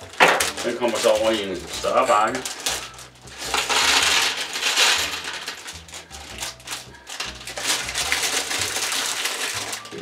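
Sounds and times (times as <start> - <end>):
plastic bag crinkling: 0.0 - 10.0
plastic pieces rattling into a tray: 0.0 - 10.0.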